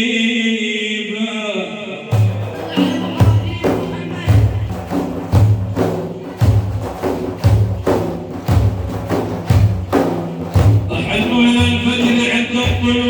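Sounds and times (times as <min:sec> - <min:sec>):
hand-beaten frame drums: 0:02.2 - 0:13.0.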